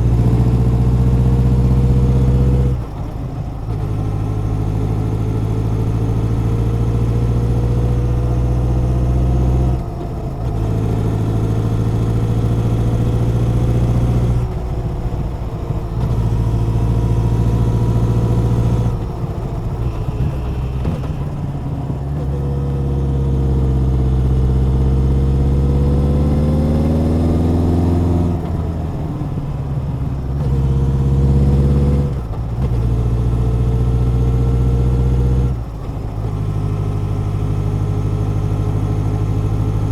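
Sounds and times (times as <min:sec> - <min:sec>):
motorcycle engine running: 0:00.0 - 0:34.8.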